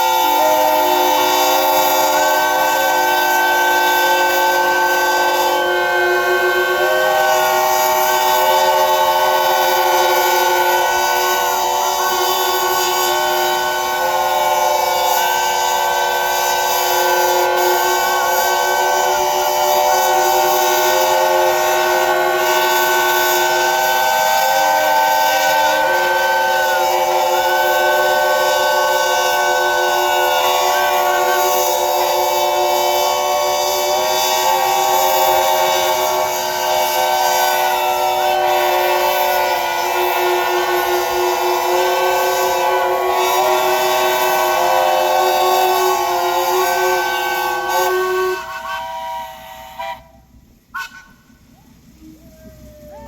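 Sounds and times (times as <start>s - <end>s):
steam locomotive whistles: 0.0s - 53.0s.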